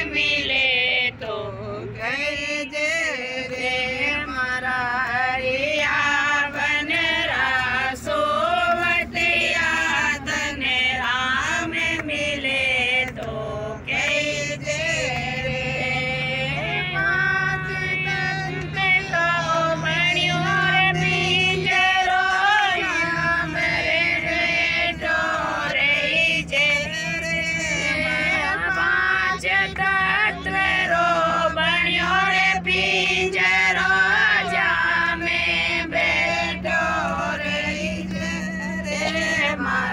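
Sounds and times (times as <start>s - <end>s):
women singing devotional song: 0.0s - 39.9s.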